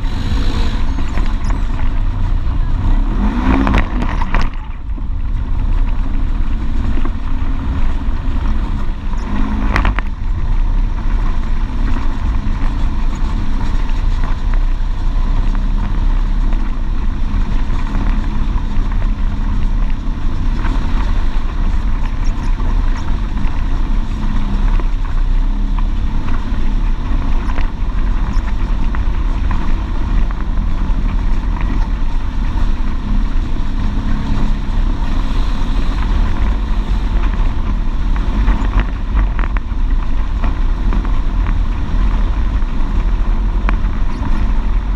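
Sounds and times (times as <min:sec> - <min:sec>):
off-road vehicle engine rumble: 0:00.0 - 0:44.9.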